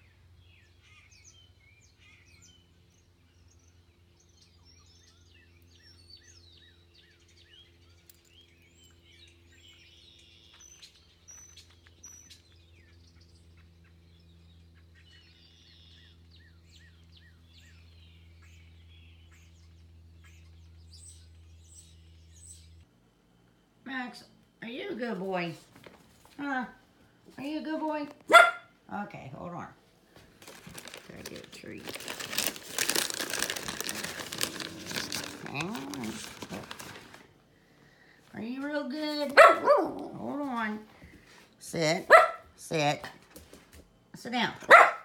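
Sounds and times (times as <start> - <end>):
small birds chirping: 0.0 - 25.6, 30.4 - 43.0
steady low hum: 0.0 - 44.7.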